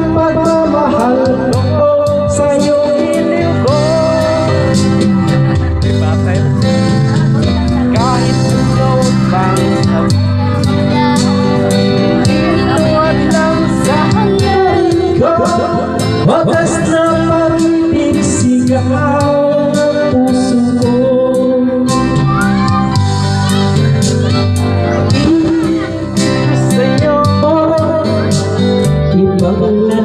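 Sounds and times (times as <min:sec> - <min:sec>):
man singing into a microphone: 0:00.0 - 0:23.6, 0:24.3 - 0:30.0
backing track with steady beat: 0:00.0 - 0:30.0.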